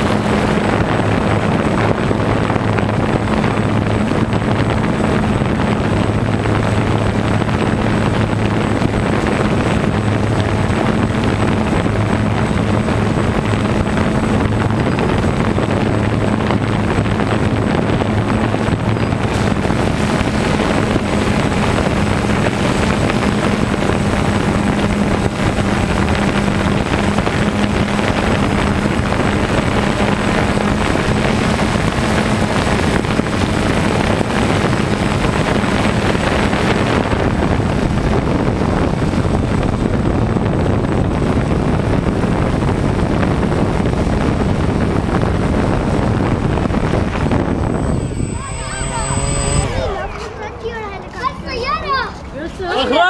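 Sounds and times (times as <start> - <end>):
drone propellers whirring: 0.0 - 40.3, 42.7 - 51.5
steady motor hum: 0.0 - 51.4.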